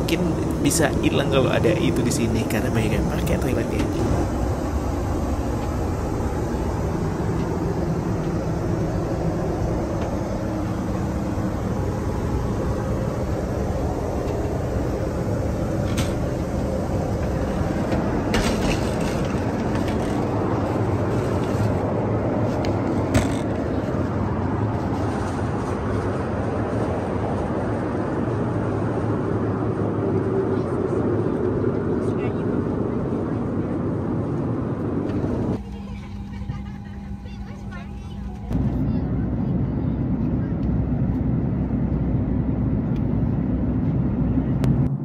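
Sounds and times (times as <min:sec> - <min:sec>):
airplane cabin drone: 0:00.0 - 0:45.0.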